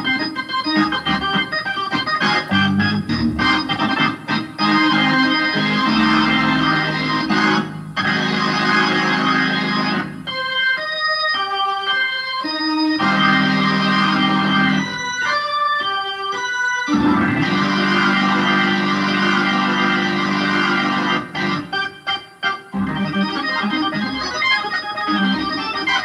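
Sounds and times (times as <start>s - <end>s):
organ chords: 0.0s - 26.0s.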